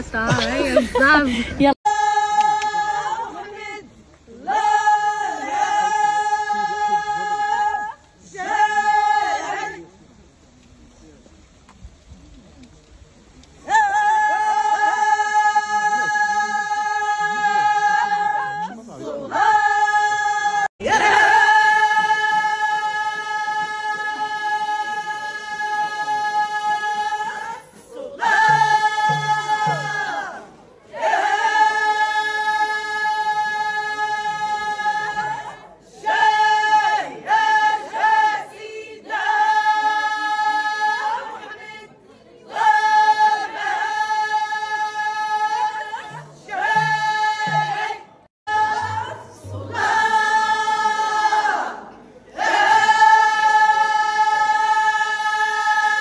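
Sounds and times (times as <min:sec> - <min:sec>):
women singing in unison: 0:00.0 - 0:09.8, 0:13.7 - 0:56.0.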